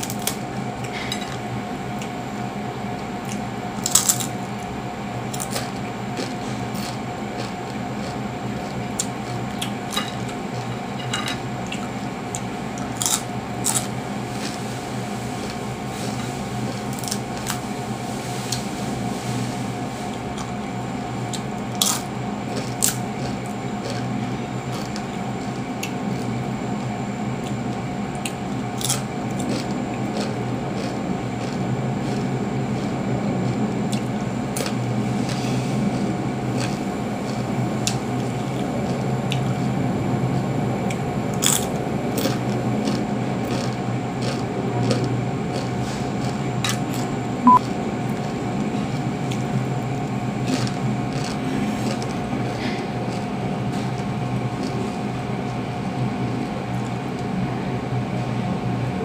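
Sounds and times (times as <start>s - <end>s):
crispy fritter crunching: 0.0s - 2.1s, 3.0s - 18.9s, 20.0s - 57.3s
steady hum: 0.0s - 59.0s.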